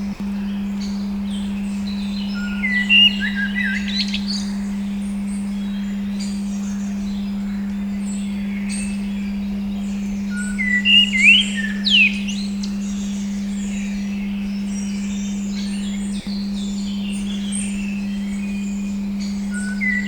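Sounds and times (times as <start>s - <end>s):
bird chirps: 0.0s - 20.0s
steady pure tone: 0.0s - 20.0s
swooping whistled bird calls: 0.0s - 20.0s.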